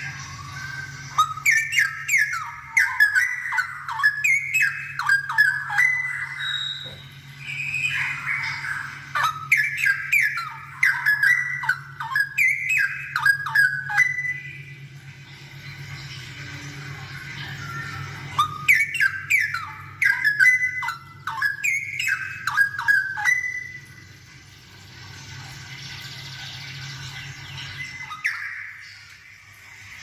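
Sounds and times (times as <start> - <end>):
bird singing bubbling warbles: 0.0 - 30.0
low steady hum: 0.0 - 30.0.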